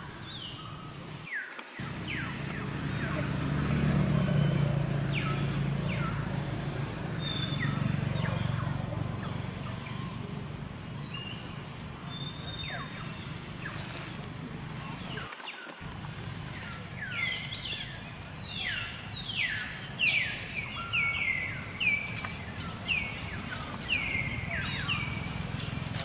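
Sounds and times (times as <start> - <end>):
vehicle engine running: 1.8 - 26.0.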